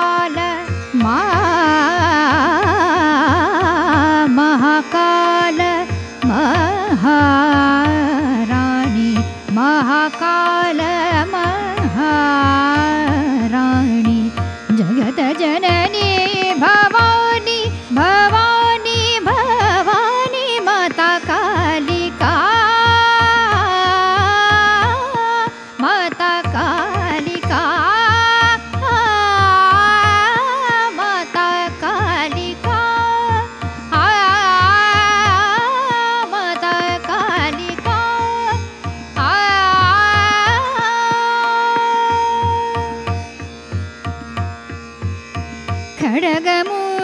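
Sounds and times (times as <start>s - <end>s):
woman singing classical song: 0.0s - 43.3s, 46.0s - 47.0s.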